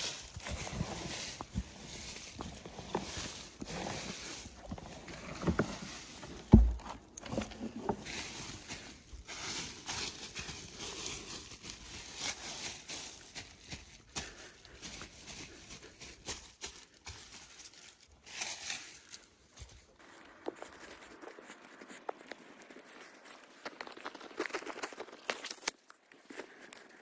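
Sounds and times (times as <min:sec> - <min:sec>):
hands rustling soil and leaves: 0:00.0 - 0:27.0.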